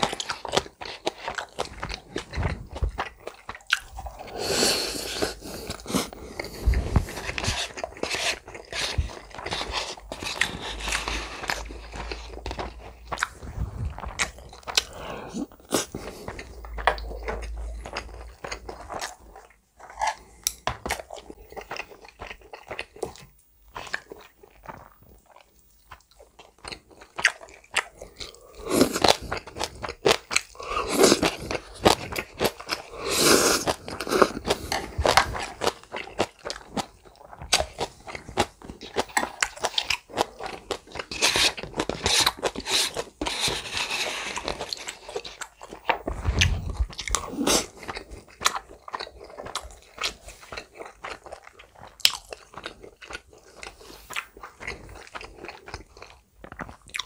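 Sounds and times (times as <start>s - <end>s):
close-up chewing and biting: 0.0s - 57.0s.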